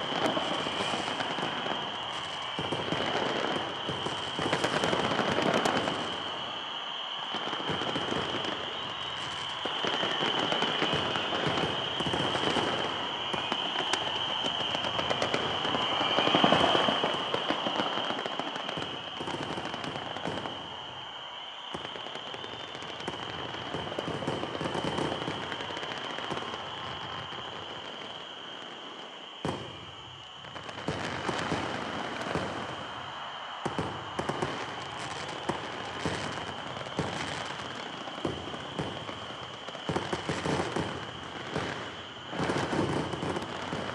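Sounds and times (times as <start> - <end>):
fireworks crackling and popping: 0.0 - 43.9.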